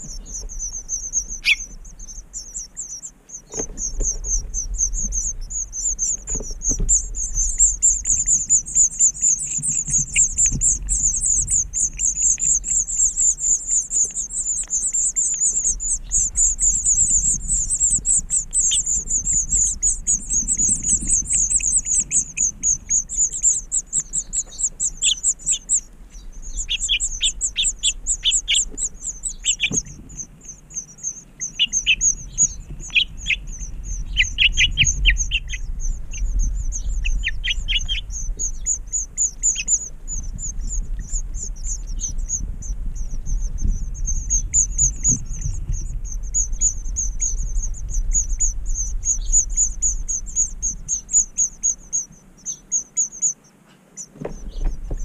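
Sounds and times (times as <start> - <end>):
nestlings peeping: 0.0 - 55.0.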